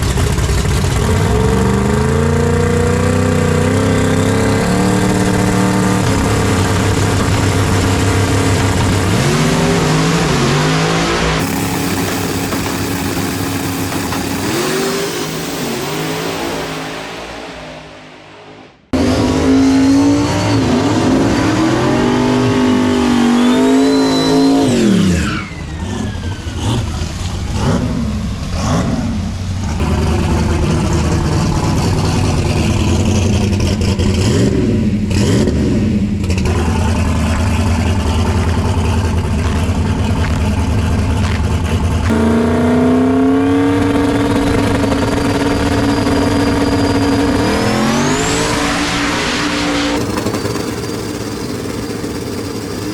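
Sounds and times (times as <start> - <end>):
drag racing engines revving: 0.0 - 52.9.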